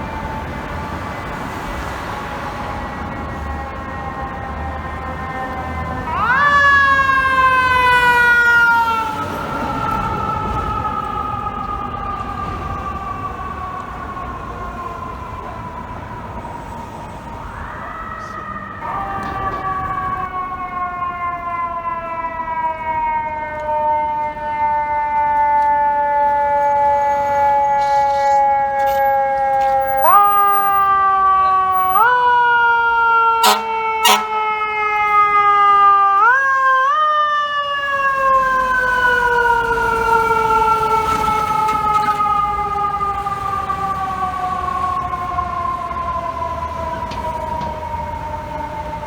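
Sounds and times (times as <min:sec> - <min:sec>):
mechanical siren wailing: 0:00.0 - 0:49.0.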